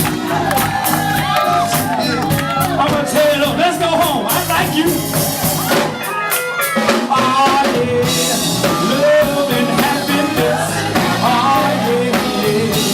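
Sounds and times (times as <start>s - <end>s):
live band playing soul blues: 0.0s - 12.9s.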